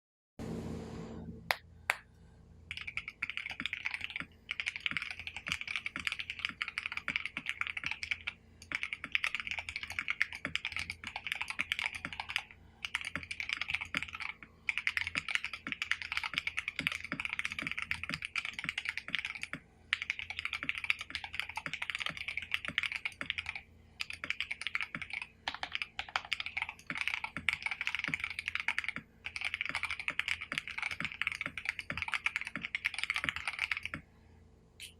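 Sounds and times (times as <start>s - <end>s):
fast typing on mechanical keyboard: 2.7s - 34.0s.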